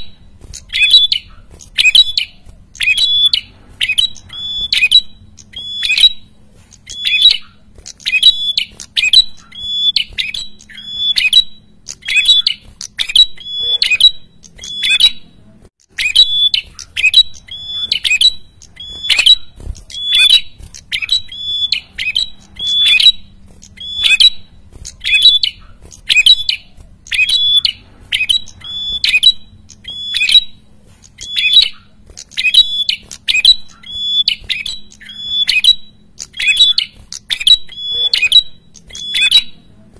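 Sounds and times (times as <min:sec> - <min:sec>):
bird calling harsh notes: 0:00.0 - 0:39.9.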